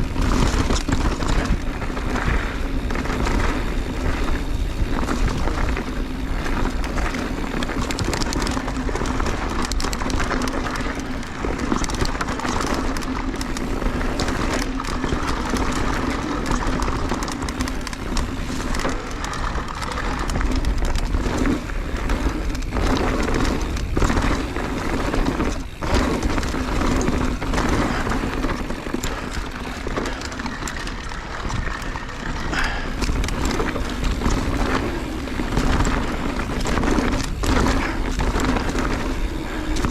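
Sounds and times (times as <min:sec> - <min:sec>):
bike knocks and rattles: 0:00.0 - 0:39.9
bike tyres rolling: 0:00.0 - 0:39.9.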